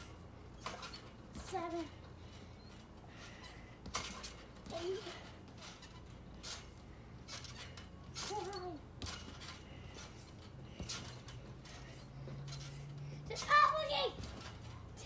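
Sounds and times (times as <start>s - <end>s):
trampoline springs clinking and creaking: 0.0s - 15.0s.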